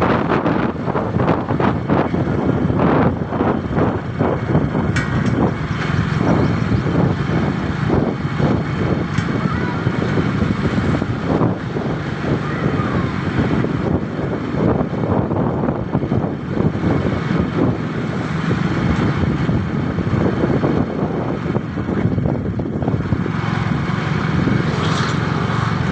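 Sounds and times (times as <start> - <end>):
motorcycle engine running: 0.0 - 25.9
wind buffeting microphone: 0.0 - 25.9.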